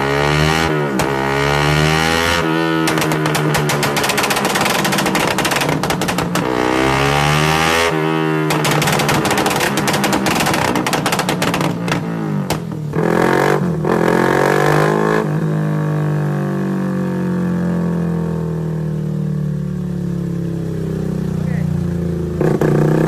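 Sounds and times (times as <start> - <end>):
motorcycle engine revving: 0.0 - 17.4, 20.7 - 23.0.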